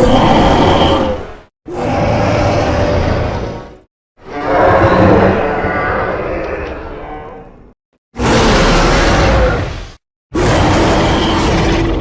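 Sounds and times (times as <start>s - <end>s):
monster roar: 0.0s - 3.5s, 4.3s - 7.4s, 8.2s - 12.0s.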